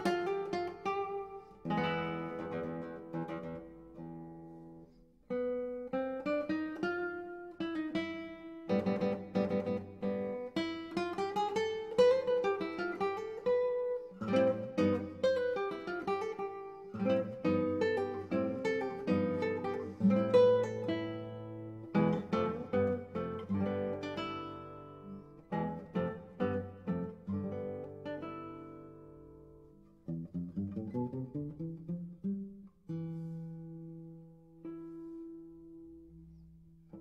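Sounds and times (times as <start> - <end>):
acoustic guitar playing: 0.0 - 37.0.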